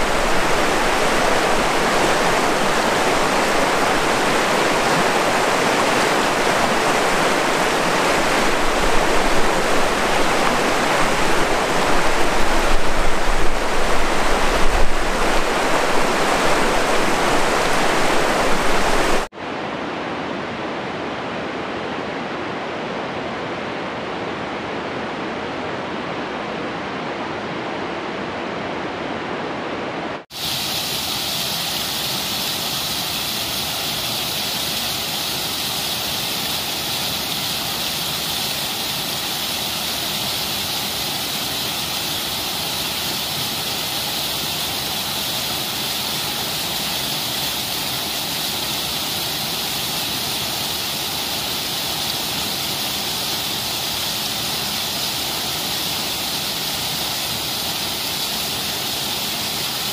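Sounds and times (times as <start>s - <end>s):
waterfall rushing: 0.0s - 19.3s, 30.2s - 59.9s.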